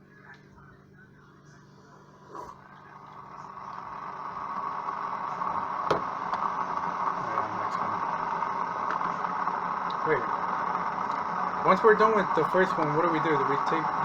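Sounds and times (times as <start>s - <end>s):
coffee brewer hissing hum: 0.0s - 14.0s.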